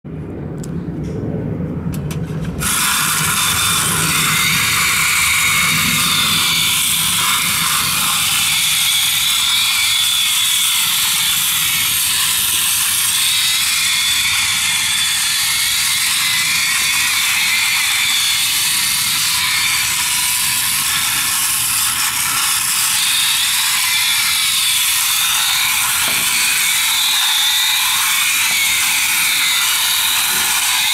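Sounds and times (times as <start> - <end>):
toy motor whirring rattle: 2.6 - 30.9.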